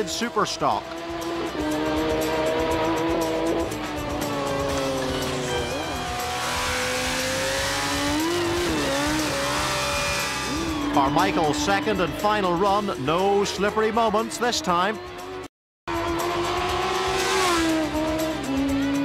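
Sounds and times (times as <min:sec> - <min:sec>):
motorcycle engine wailing: 0:00.0 - 0:19.0.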